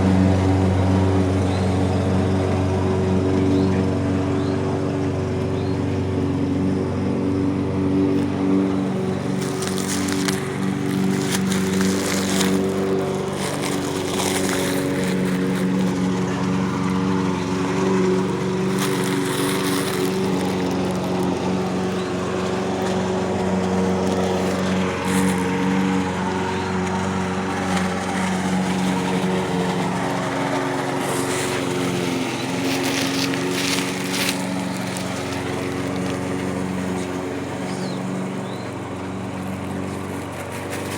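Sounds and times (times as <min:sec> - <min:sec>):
small engine running steadily: 0:00.0 - 0:40.9.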